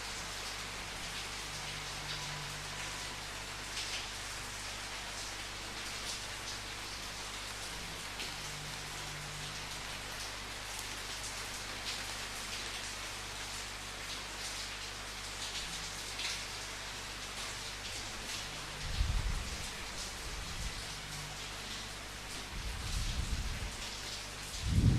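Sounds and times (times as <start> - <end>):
raindrops pattering on a surface: 0.0 - 24.9
steady rain falling: 0.0 - 24.9.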